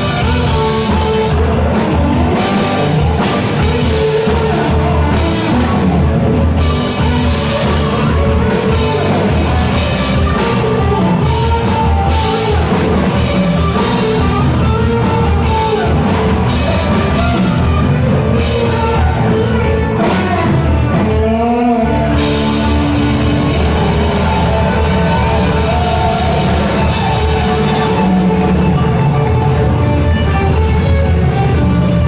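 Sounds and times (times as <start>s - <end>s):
bass guitar: 0.0s - 32.0s
drums: 0.0s - 32.0s
electric guitar: 0.0s - 32.0s.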